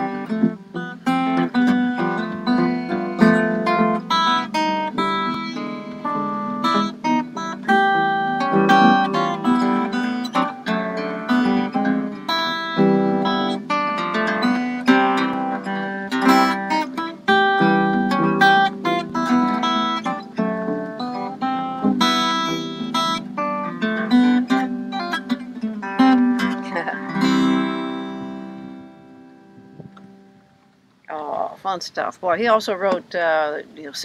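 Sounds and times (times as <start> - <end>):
harp guitar fingerpicked: 0.0 - 34.0.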